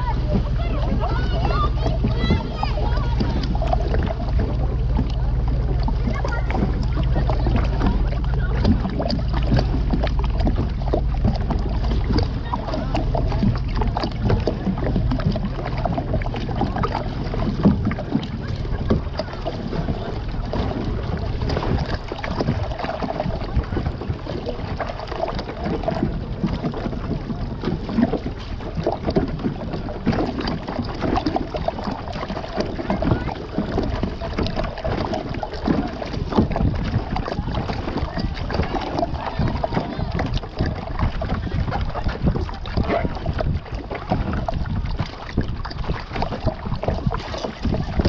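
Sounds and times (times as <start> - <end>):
water splashing around kayak: 0.0 - 48.0
wind buffeting microphone: 0.0 - 48.0.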